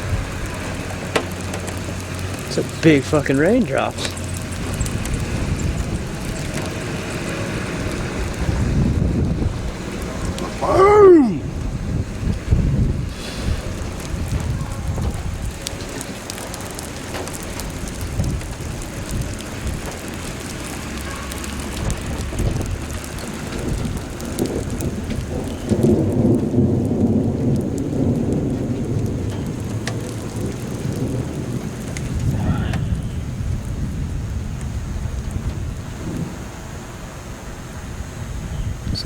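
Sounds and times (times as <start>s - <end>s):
rain spattering: 0.0s - 39.0s
thunder rumbling: 0.0s - 39.0s.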